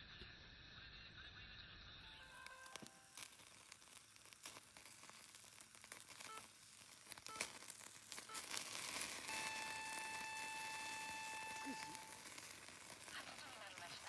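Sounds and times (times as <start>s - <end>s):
crackles and pops: 1.8s - 14.0s
meat sizzling on a grill: 2.1s - 14.0s.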